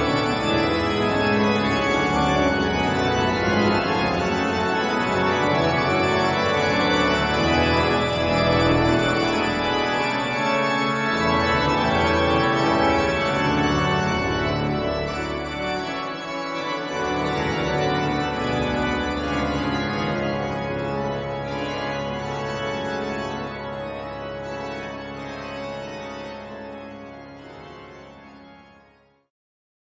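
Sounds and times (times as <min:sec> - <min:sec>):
church organ playing chords: 0:00.0 - 0:29.2.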